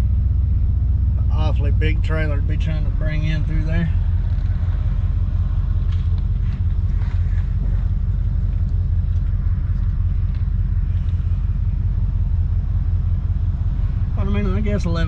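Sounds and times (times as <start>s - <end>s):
truck engine and road hum: 0.0s - 15.0s.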